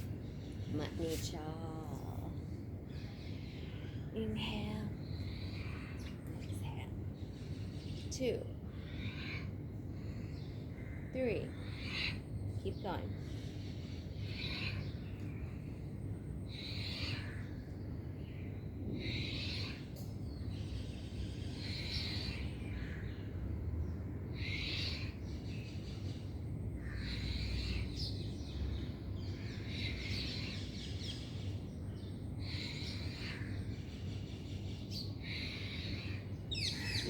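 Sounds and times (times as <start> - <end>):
low background rumble: 0.0 - 37.0.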